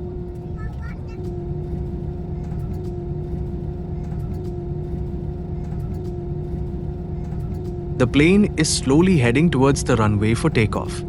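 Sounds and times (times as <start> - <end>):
jet engines idling in cabin: 0.0 - 11.0.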